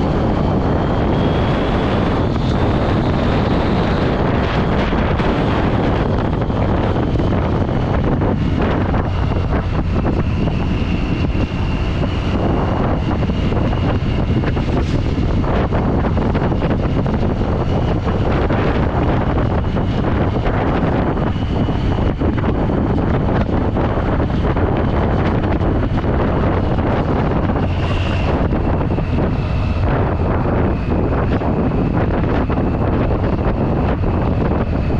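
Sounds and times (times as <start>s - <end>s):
motorcycle engine running: 0.0s - 34.9s
wind noise on microphone: 0.0s - 34.9s.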